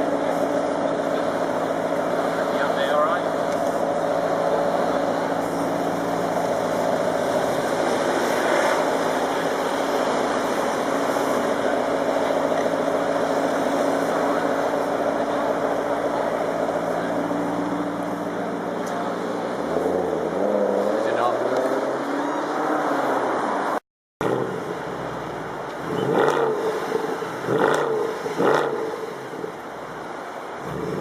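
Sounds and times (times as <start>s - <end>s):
sports car engine idling and revving: 0.0s - 31.0s.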